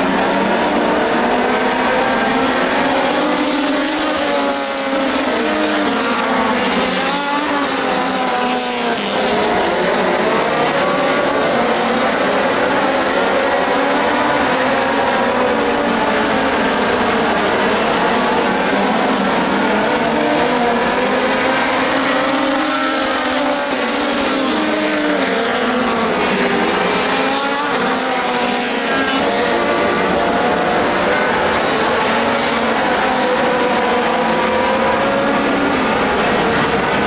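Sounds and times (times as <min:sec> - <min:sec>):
race car engines: 0:00.0 - 0:37.0.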